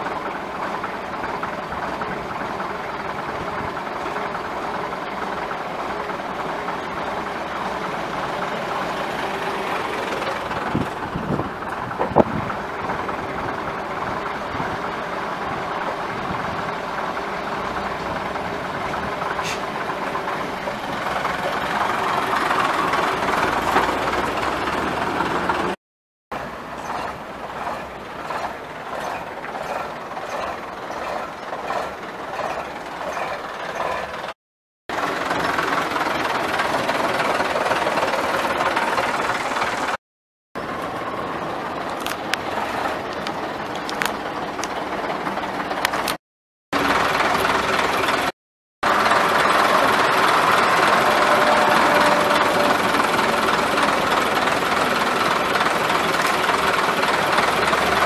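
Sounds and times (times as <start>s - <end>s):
bus diesel engines running: 0.0s - 40.0s, 40.6s - 58.0s.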